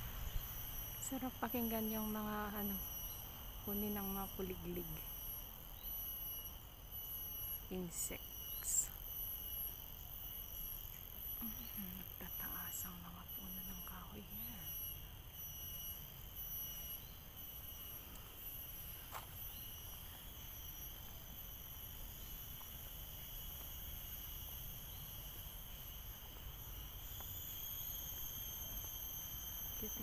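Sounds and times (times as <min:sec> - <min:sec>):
insects shrilling: 0:00.0 - 0:30.0.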